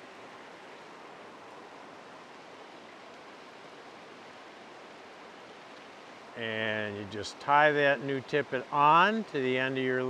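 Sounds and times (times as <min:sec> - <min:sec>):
stream rushing over rapids: 0:00.0 - 0:10.0.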